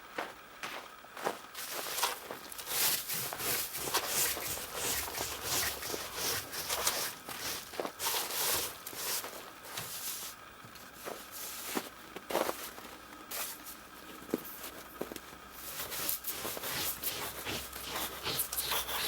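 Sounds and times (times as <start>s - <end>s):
footsteps crunching and scuffing: 0.0s - 19.0s.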